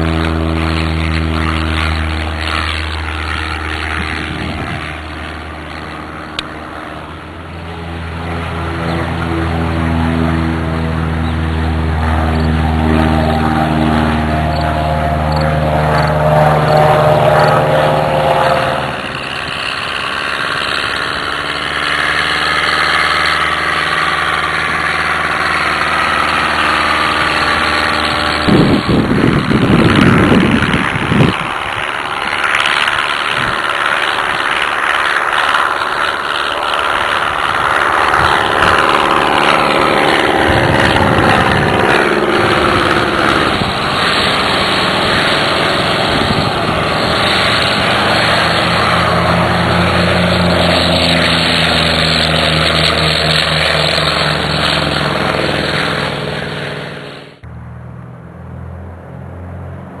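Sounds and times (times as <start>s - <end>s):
propeller airplane engine: 0.0s - 60.0s.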